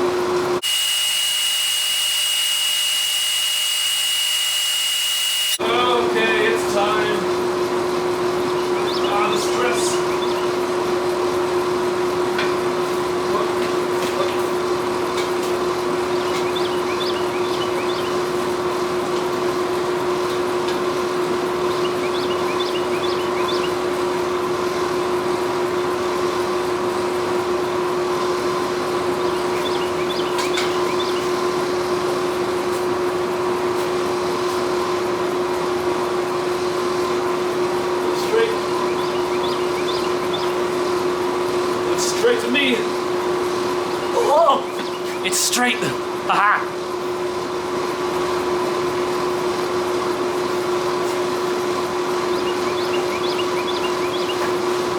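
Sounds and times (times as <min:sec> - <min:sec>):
forge mechanical hum: 0:00.0 - 0:54.9.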